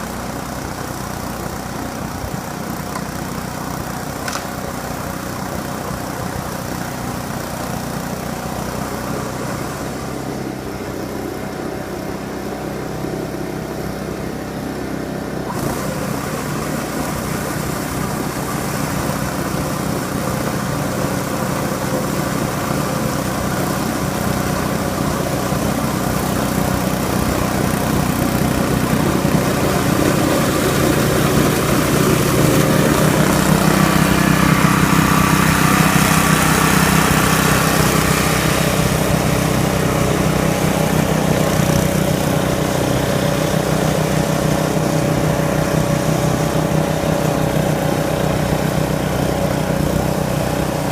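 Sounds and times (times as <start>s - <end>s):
snowblower engine running: 0.0s - 50.9s.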